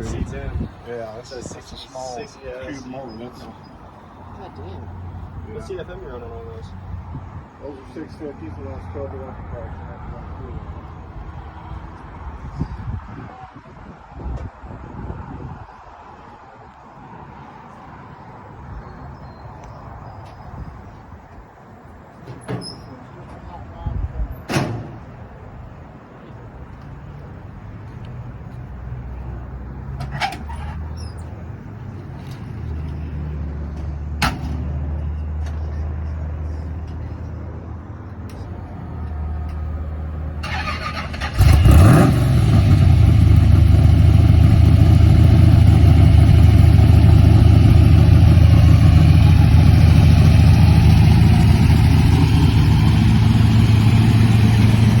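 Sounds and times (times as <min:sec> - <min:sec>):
van engine rumbling: 0:00.0 - 0:13.2, 0:20.0 - 0:55.0.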